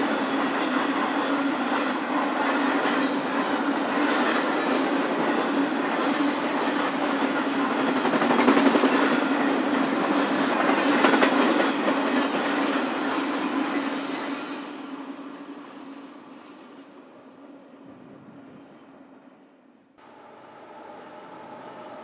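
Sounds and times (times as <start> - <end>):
train wheels rolling on rails: 0.0 - 18.9, 20.0 - 22.0.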